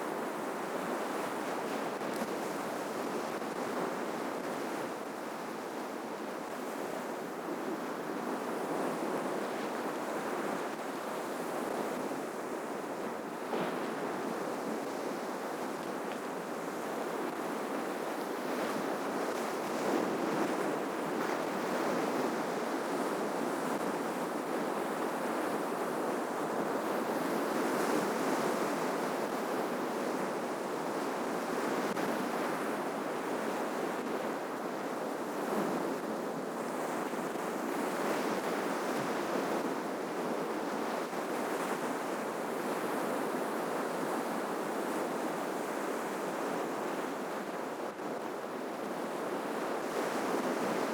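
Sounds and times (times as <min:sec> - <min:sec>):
ocean surf washing ashore: 0:00.0 - 0:50.9.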